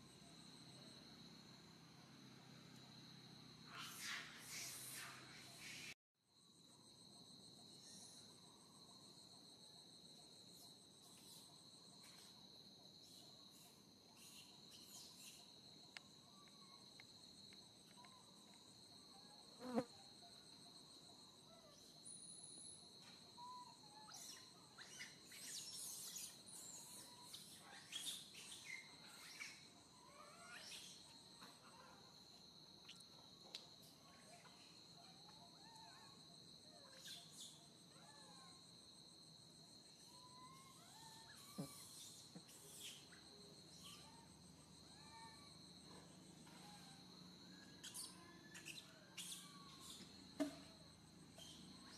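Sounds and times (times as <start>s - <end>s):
high-pitched insect chorus: 0.0s - 51.9s.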